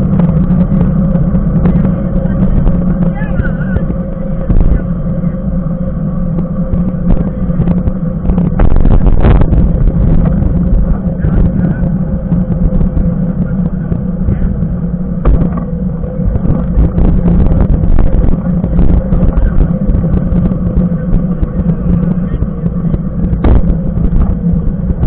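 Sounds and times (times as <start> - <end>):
bike tyre rolling on road: 0.0 - 25.0
wind rumble on microphone: 0.0 - 25.0.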